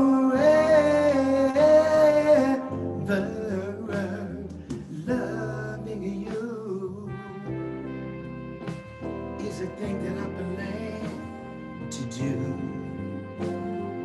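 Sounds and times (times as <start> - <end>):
man singing wordless vocal: 0.0 - 7.6, 9.4 - 13.6
slow ballad backing track: 0.0 - 14.0.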